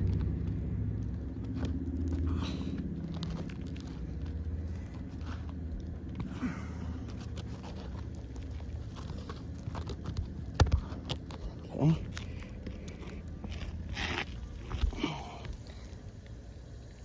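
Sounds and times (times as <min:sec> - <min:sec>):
low steady hum: 0:00.0 - 0:17.0
shingles scraping and crunching: 0:01.1 - 0:16.0.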